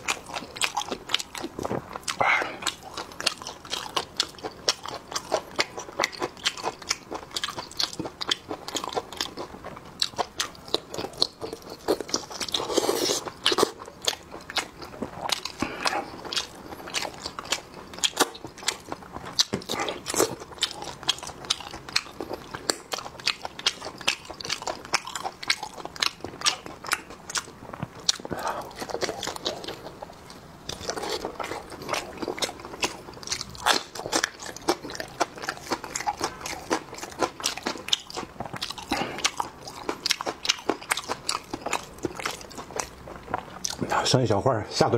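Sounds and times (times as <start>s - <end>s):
close-miked biting and chewing: 0.0s - 43.9s.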